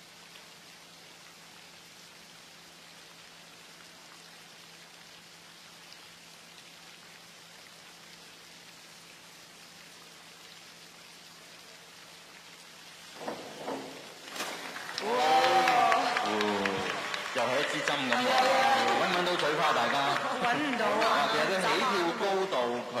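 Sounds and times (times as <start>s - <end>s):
water spraying onto pool surface: 0.0s - 23.0s.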